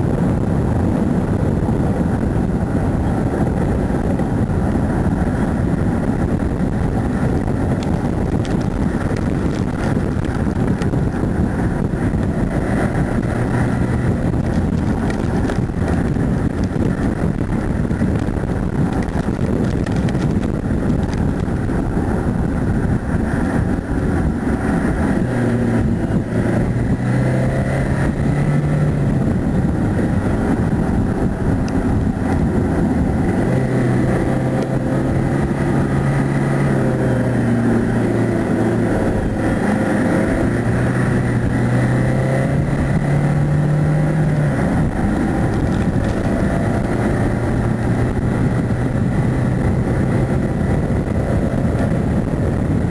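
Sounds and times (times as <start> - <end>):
car engine accelerating: 0.0 - 52.9
road and wind noise: 0.0 - 52.9.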